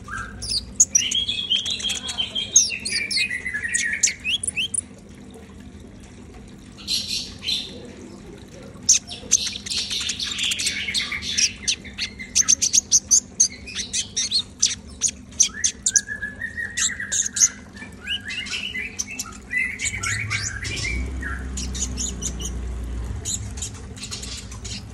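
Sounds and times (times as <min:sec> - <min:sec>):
sunbird singing high chirps: 0:00.0 - 0:04.8, 0:08.9 - 0:24.9.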